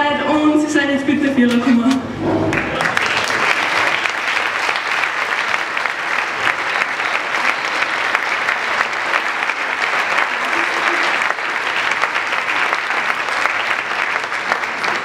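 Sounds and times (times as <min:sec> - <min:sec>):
crowd applauding: 0:02.5 - 0:15.0.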